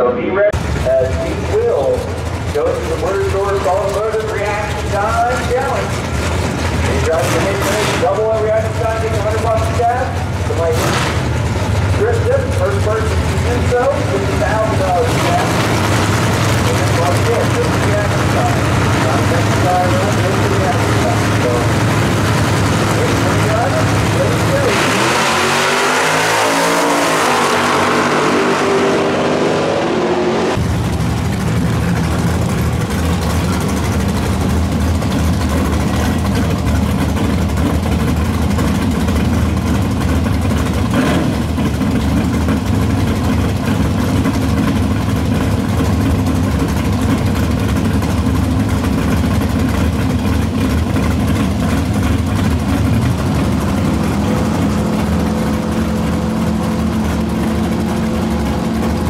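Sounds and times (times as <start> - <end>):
car engine idling loudly: 0.0 - 59.0
drag cars accelerating: 0.0 - 59.0.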